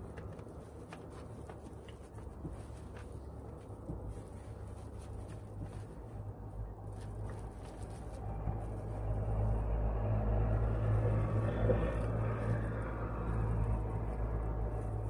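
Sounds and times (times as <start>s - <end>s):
low rumble: 2.5s - 15.0s.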